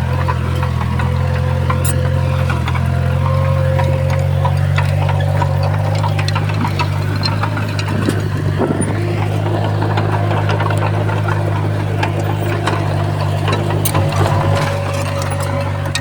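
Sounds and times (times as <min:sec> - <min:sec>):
heavy diesel engine droning: 0:00.0 - 0:16.0
small clicks and clanks: 0:00.0 - 0:16.0.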